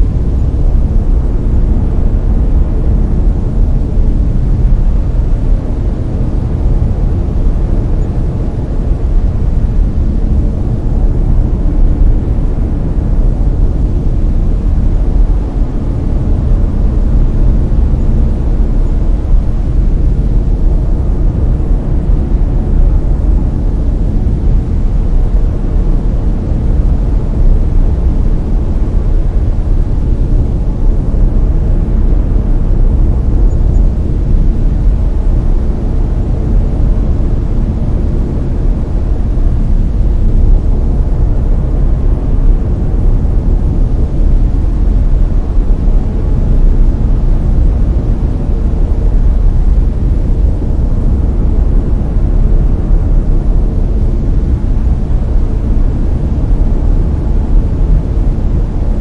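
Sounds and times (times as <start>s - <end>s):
deep rumbling brown noise: 0.0s - 59.0s.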